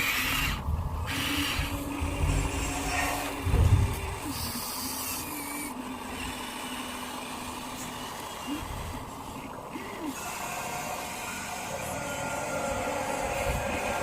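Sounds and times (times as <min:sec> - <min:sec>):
small electric motors whirring: 0:00.0 - 0:14.0
steady motor whine: 0:00.0 - 0:14.0.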